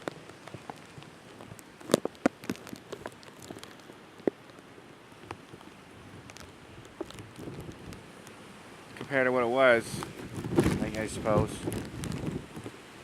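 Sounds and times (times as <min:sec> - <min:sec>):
raindrops tapping on plastic bag: 0:00.0 - 0:09.2, 0:09.8 - 0:12.8
rain and wind hissing: 0:00.0 - 0:13.0.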